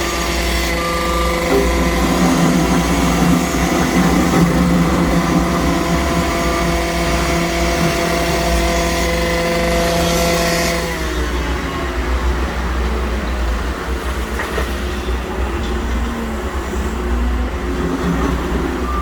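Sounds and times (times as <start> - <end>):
construction machinery engine running: 0.0 - 19.0.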